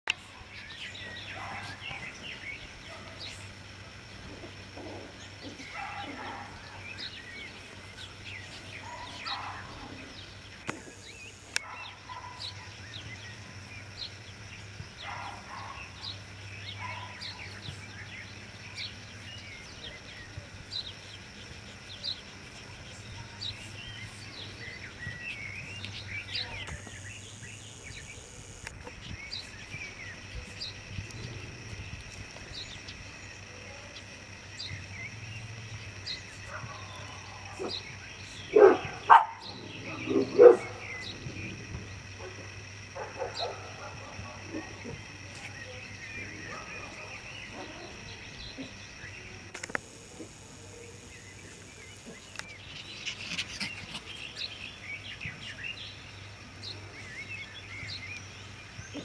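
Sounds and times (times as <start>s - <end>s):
songbirds chirping: 0.1s - 59.0s.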